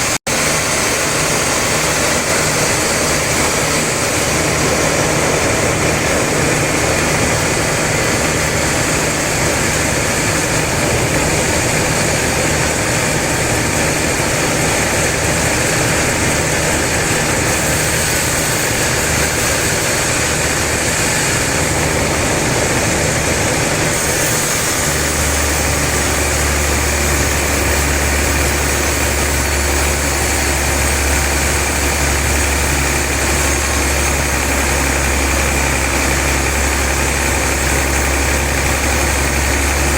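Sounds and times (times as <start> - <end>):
deep loud hum: 0.0 - 39.9
sawmill machinery drone and hiss: 0.0 - 39.9.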